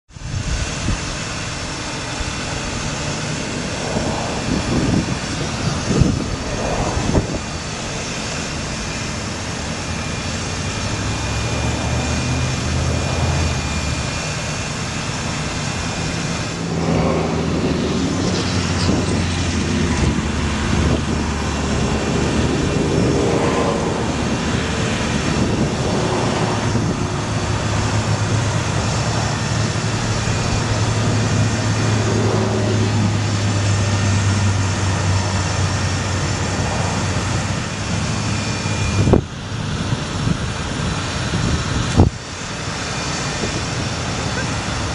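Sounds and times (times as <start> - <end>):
truck engine running: 0.1 - 44.9.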